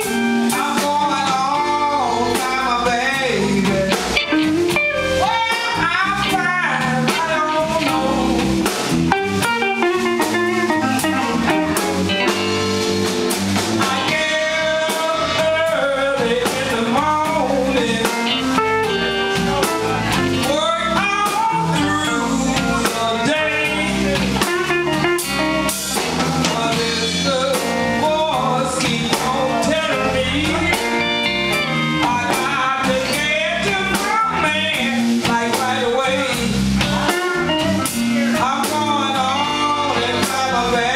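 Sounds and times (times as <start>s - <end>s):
woman singing: 0.0s - 8.5s, 13.8s - 25.4s, 26.2s - 40.9s
blues band playing: 0.0s - 40.9s.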